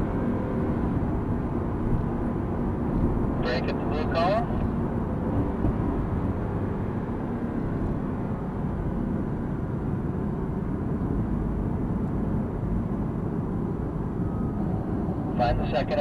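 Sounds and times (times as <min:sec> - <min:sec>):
car engine rumble inside cabin: 0:00.0 - 0:16.0.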